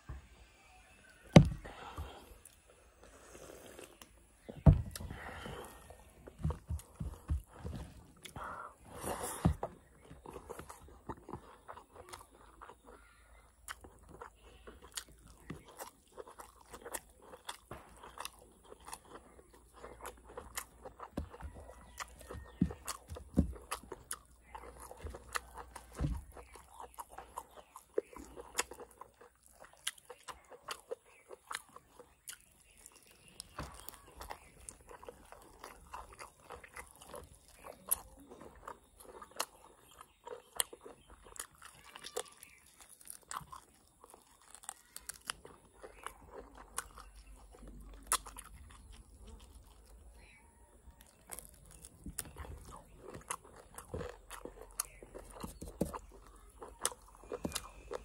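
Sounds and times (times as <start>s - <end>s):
person chewing food: 1.1s - 58.0s.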